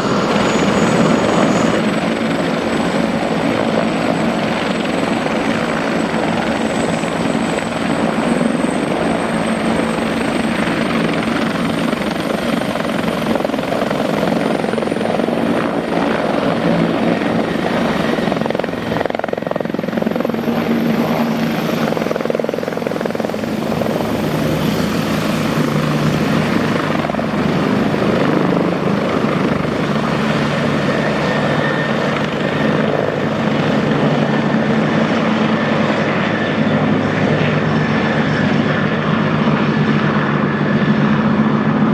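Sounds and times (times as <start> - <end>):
helicopter rotor and turbine: 0.0 - 41.9
high turbine whine: 0.0 - 41.9.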